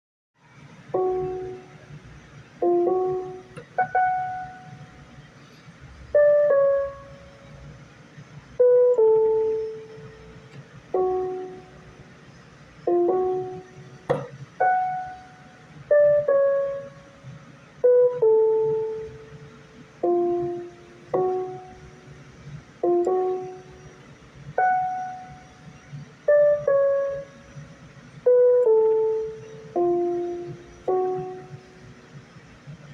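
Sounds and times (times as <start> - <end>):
electronic keyboard notes: 0.9 - 32.9.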